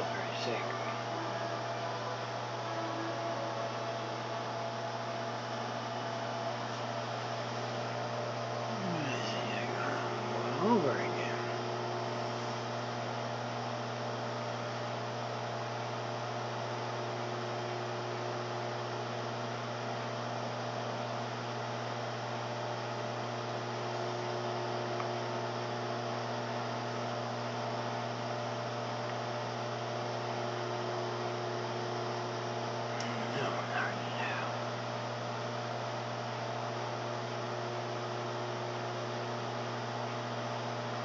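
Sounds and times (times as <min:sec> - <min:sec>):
microwave oven humming: 0:00.0 - 0:41.0.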